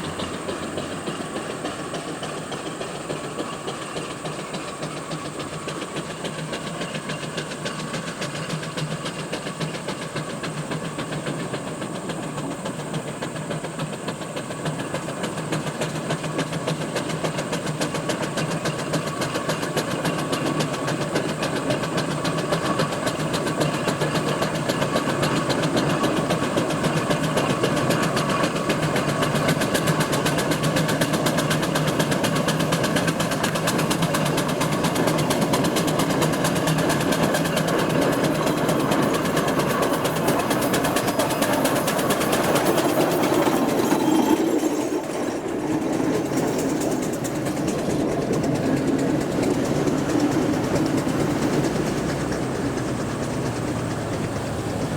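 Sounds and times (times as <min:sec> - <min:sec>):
steam traction engine clatter: 0:00.0 - 0:54.9.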